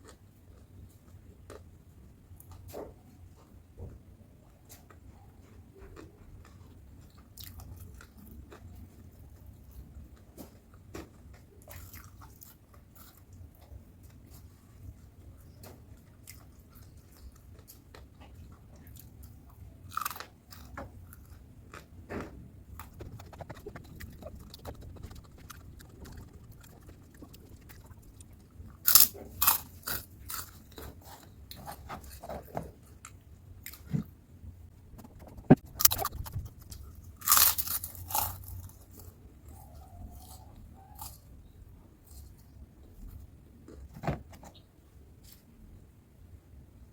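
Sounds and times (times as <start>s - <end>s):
chewing crunchy food: 0.0s - 34.1s, 34.8s - 41.3s.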